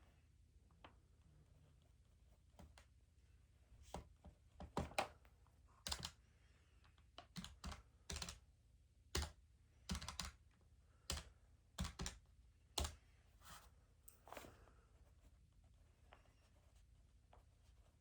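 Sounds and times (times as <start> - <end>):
faint room noise: 0.0 - 18.0.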